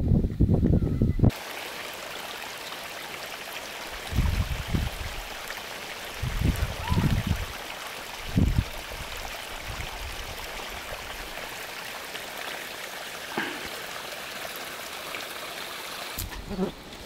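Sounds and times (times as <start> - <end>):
running water rushing: 1.3 - 17.0.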